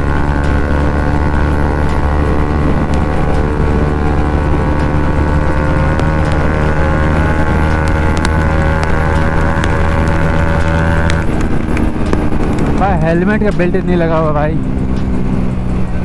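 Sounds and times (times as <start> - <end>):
motorcycle engine exhaust note: 0.0 - 16.0.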